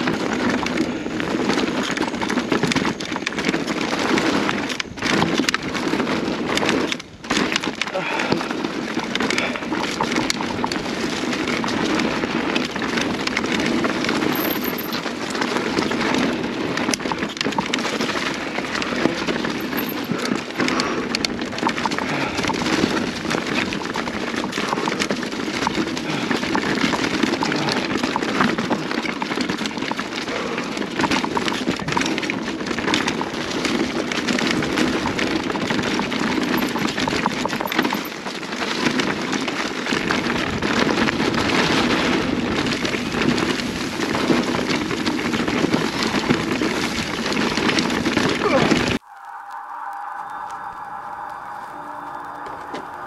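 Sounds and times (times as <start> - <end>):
bike rattling over roots and rocks: 0.0 - 49.0
bike tyres crunching on dirt and leaves: 0.0 - 53.0.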